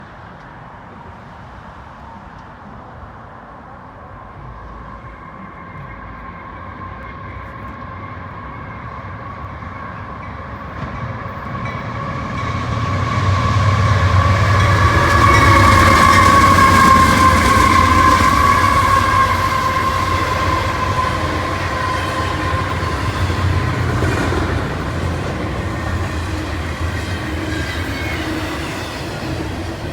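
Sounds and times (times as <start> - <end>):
freight train passing: 0.0 - 29.9.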